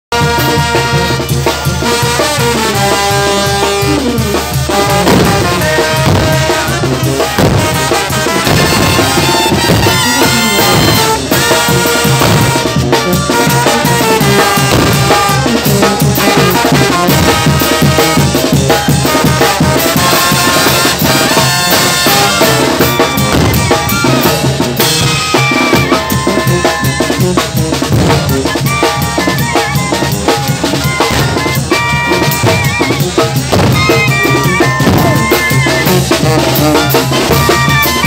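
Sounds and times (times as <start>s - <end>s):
brass and clarinet notes: 0.1s - 38.0s
snare and bass drum beat: 0.1s - 38.0s.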